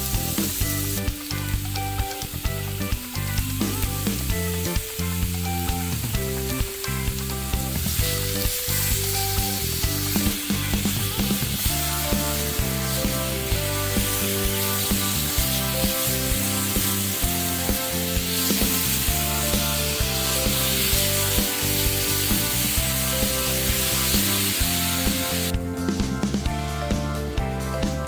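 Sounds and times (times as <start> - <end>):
fruit sizzling in a pan: 0.0 - 25.5
background music: 0.0 - 28.0
spatula turning food: 0.1 - 25.5.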